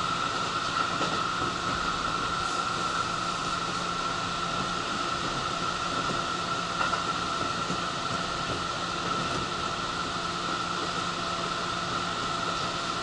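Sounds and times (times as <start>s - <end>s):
train car rushing hiss: 0.0s - 13.0s.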